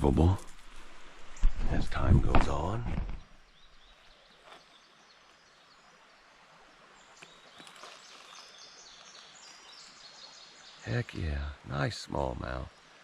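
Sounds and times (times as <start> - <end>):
low steady hiss: 0.0 - 13.0
small birds chirping: 0.0 - 13.0.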